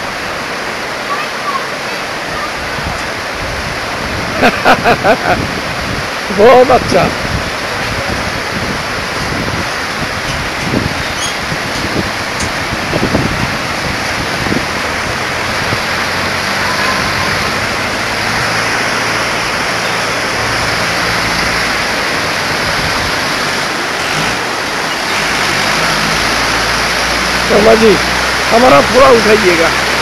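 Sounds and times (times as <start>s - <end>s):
river rushing over rocks: 0.0s - 30.0s.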